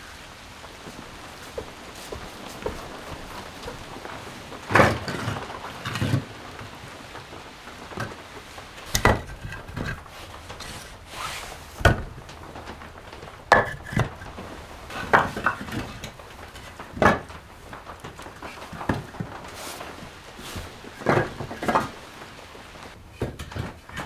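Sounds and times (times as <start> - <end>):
sharp knocks and clatters: 0.6 - 24.0.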